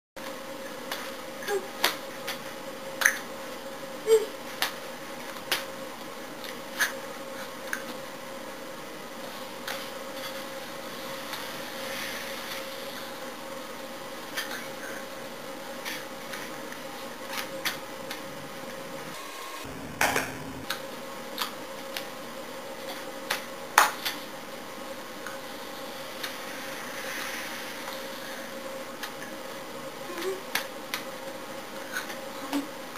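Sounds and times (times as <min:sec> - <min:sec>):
faint hum and hiss: 0:00.2 - 0:32.9.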